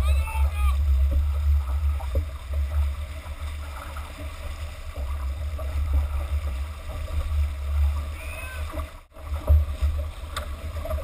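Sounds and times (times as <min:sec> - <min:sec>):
water rushing along hull: 0:00.0 - 0:11.0.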